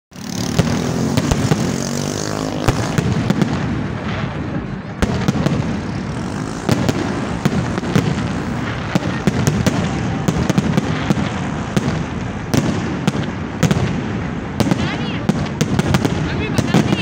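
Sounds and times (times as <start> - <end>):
fireworks bursting with sharp bangs: 0.1 - 17.0.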